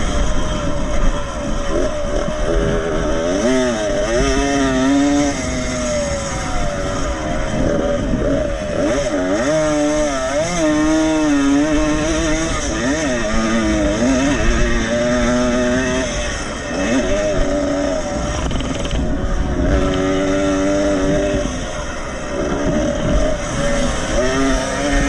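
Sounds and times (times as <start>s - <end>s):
motocross motorcycle engines racing: 0.0s - 25.0s.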